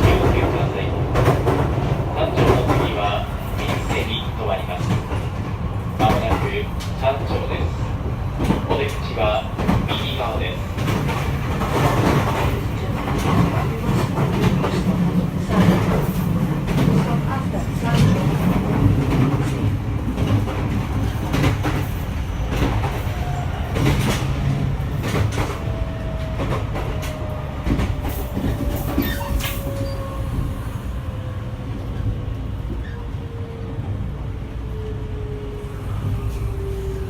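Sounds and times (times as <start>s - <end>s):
train running rumble: 0.0s - 34.3s.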